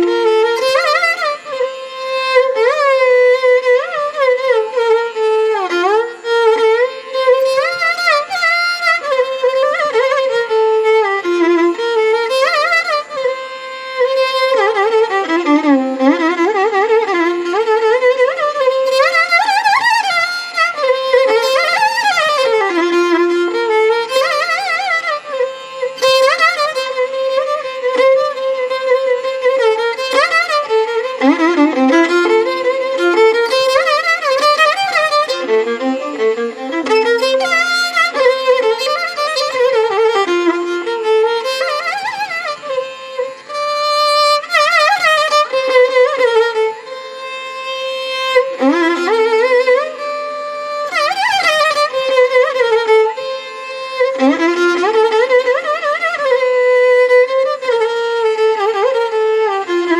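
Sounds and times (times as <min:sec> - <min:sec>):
solo melody with sliding notes: 0:00.0 - 0:59.9.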